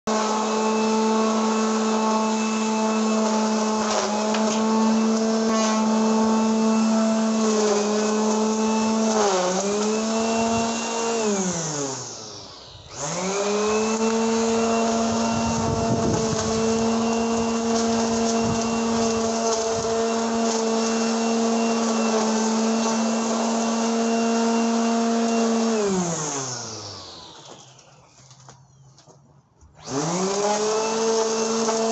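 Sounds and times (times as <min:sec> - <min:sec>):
electric string trimmer whine: 0:00.1 - 0:28.8, 0:29.6 - 0:31.9.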